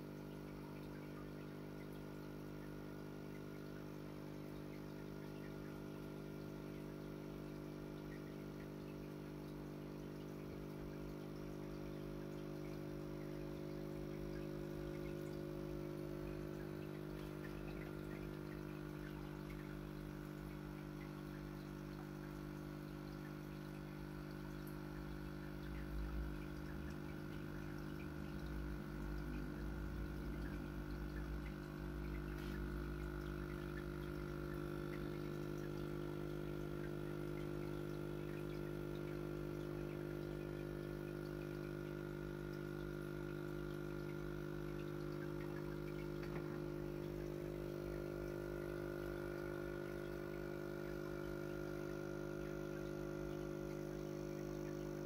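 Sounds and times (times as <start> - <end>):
aquarium filter motor hum: 0.0 - 55.0
water trickling and splashing: 0.0 - 55.0.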